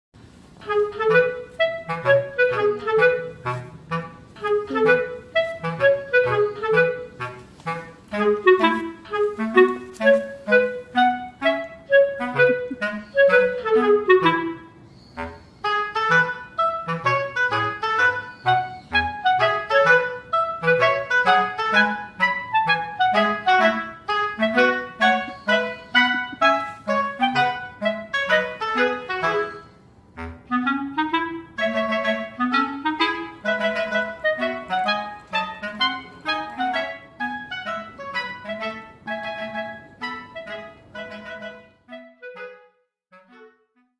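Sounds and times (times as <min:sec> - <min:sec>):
bouncy instrumental tune: 0:00.6 - 0:43.9.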